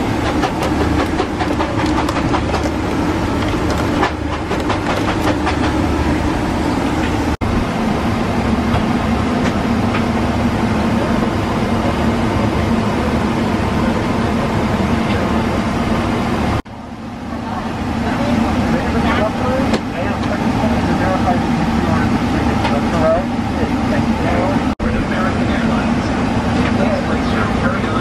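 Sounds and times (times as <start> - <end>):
airliner cabin hum: 0.0 - 28.0.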